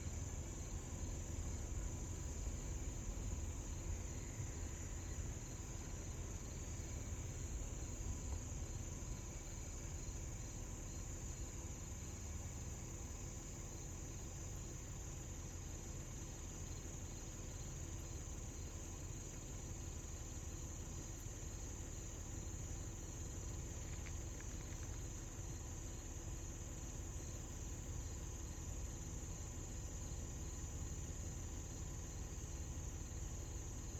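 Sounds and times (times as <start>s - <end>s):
constant low rumble: 0.0s - 33.9s
insects chorus: 0.0s - 33.9s.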